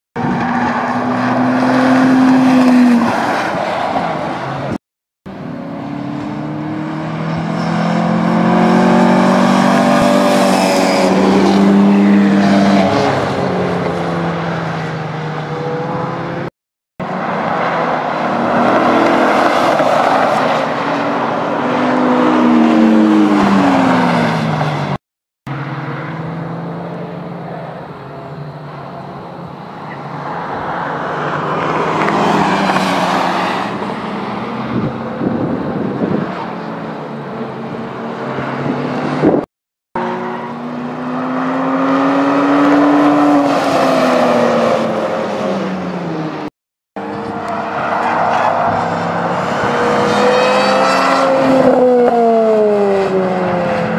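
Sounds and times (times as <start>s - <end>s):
race cars passing at speed: 0.2s - 53.9s.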